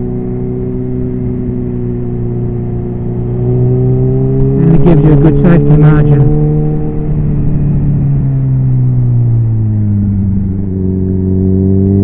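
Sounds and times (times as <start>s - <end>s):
motorcycle engine: 0.0s - 12.0s
road and wind noise: 0.0s - 12.0s.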